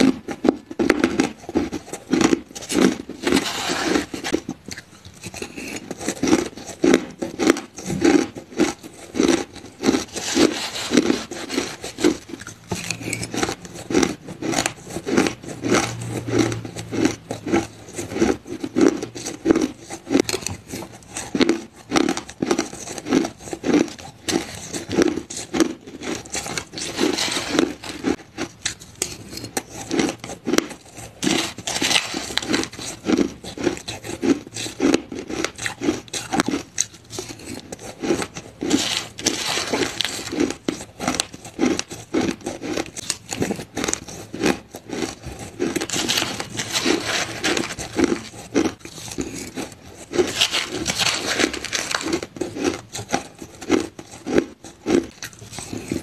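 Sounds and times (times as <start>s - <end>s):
chewing crunching ice: 0.0s - 56.0s
metal spoon scraping ice: 0.0s - 56.0s.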